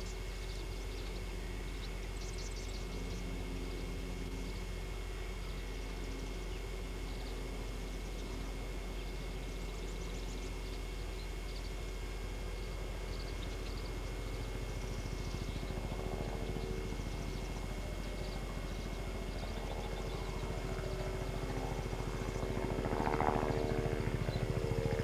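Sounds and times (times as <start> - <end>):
low pulsing engine drone: 0.0 - 25.0.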